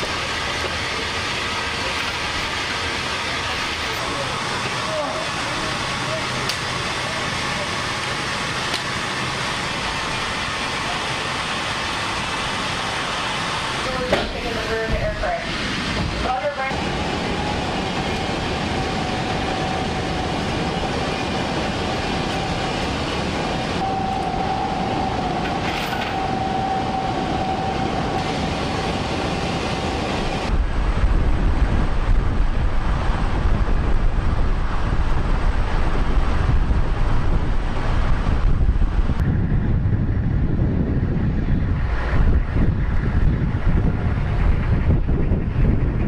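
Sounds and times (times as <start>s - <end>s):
high steady whine: 0.0s - 46.0s
military vehicle running: 0.0s - 46.0s.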